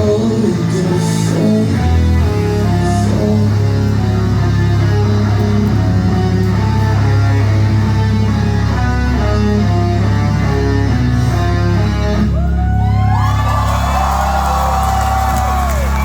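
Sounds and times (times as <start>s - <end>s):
bass: 0.0s - 16.0s
distorted electric guitars: 0.0s - 16.0s.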